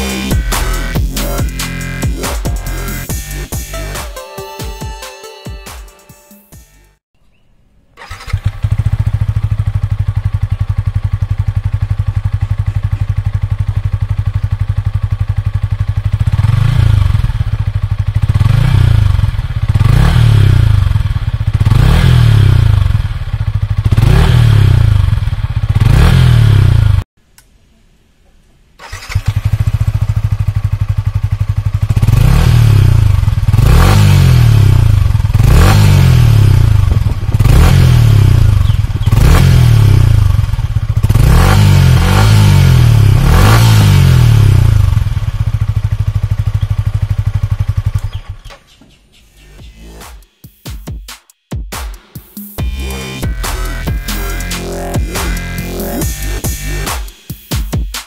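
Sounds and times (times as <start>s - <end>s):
motorcycle engine idling and revving: 0.0s - 4.0s, 8.0s - 27.1s, 28.8s - 51.0s, 52.3s - 58.0s.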